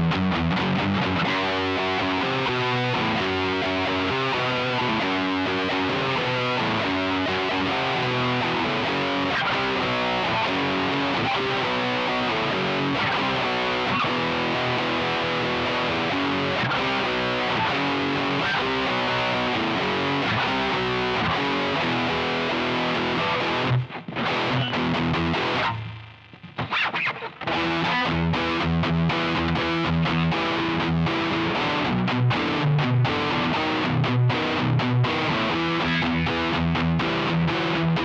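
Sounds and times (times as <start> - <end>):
distorted electric guitar riff: 0.0 - 38.0.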